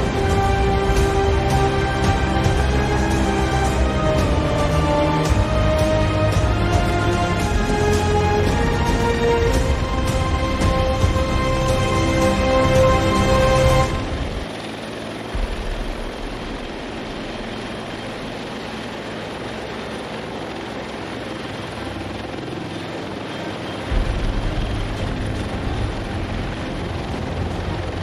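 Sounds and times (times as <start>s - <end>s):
helicopter hovering: 0.0s - 28.0s.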